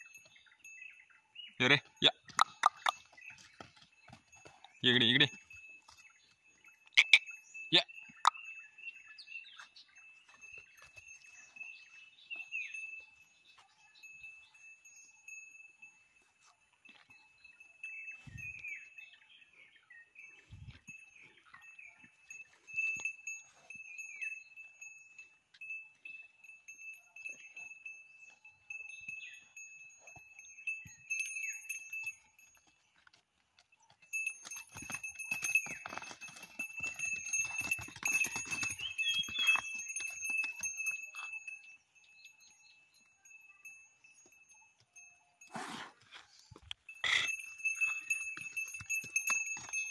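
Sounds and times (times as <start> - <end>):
neck bells jingling: 0.0 - 49.9
hooves scuffling: 2.1 - 7.3, 9.0 - 49.9.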